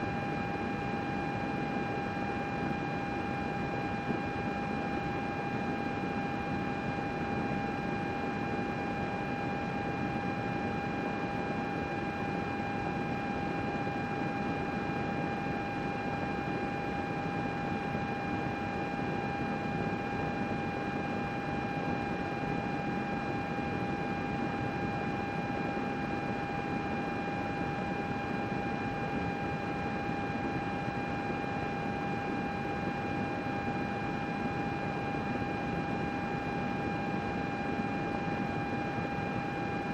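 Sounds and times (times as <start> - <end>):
computer fan noise: 0.0 - 39.9
constant high whine: 0.0 - 39.9.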